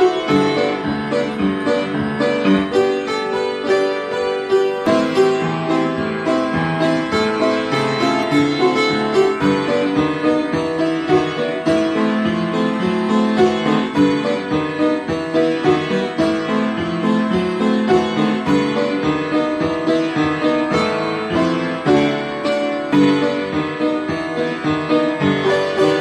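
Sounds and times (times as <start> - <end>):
piano playing samba: 0.0 - 26.0.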